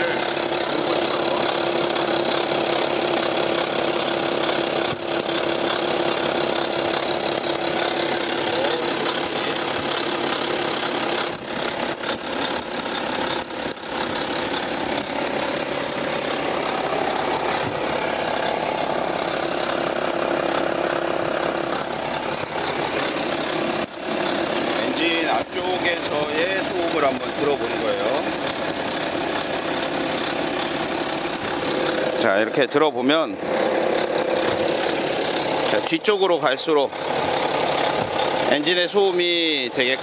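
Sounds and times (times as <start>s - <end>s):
clacking engine rattle: 0.0s - 40.0s
diesel engine idling: 0.0s - 40.0s.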